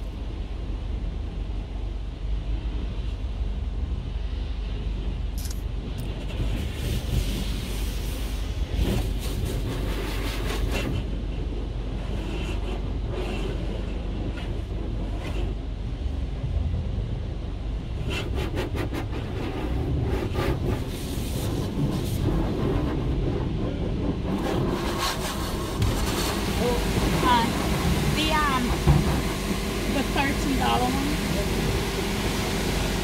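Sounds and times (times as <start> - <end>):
car wash machinery noise: 5.9 - 33.0.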